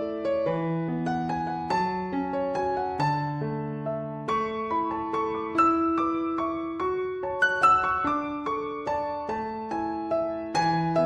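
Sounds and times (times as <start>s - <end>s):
soft slow piano: 0.0s - 11.0s.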